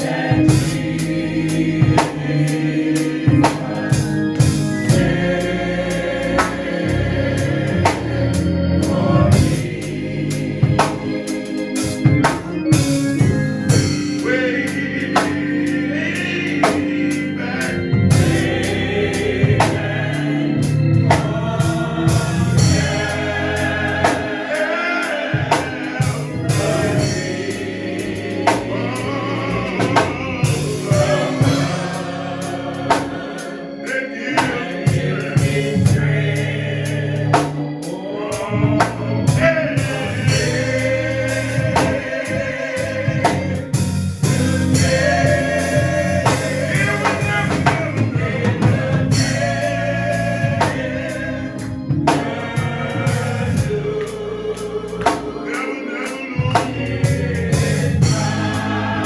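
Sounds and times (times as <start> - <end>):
drums striking: 0.0 - 7.0, 10.6 - 33.4, 34.4 - 36.5, 38.5 - 54.2, 56.4 - 59.0
gospel choir singing: 0.0 - 59.0
live band playing: 0.0 - 59.0.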